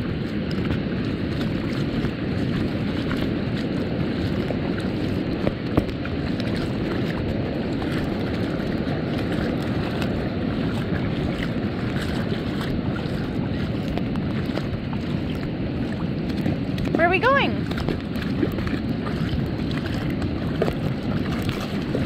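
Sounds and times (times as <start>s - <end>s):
feet splashing in shallow water: 0.0s - 22.0s
ocean surf: 0.0s - 22.0s
wind: 0.0s - 22.0s.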